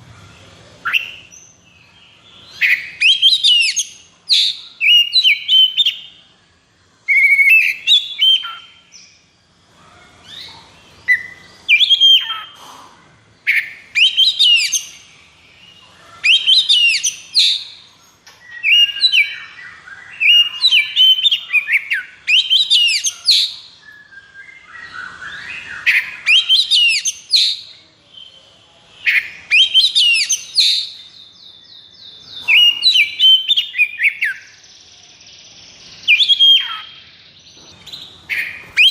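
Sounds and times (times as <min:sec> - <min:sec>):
magpie-robin singing whistled notes: 0:00.8 - 0:06.2, 0:07.1 - 0:09.2, 0:10.3 - 0:12.6, 0:13.4 - 0:38.9.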